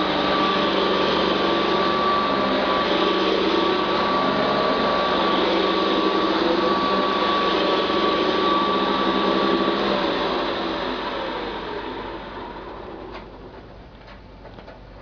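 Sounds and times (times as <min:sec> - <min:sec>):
vacuum cleaner motor drone: 0:00.0 - 0:13.7.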